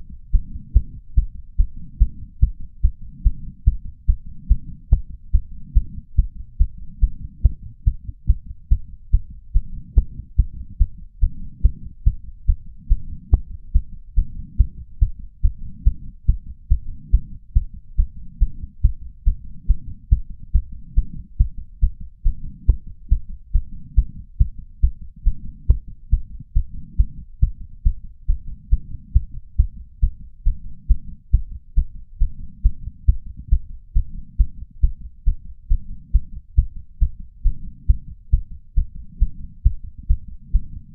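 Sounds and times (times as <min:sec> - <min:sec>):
heart beating fast: 0:00.0 - 0:40.9.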